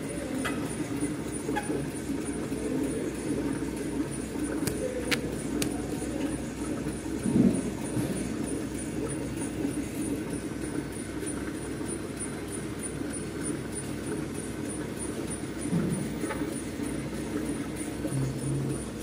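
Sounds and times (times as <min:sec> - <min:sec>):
machine droning: 0:00.0 - 0:19.0.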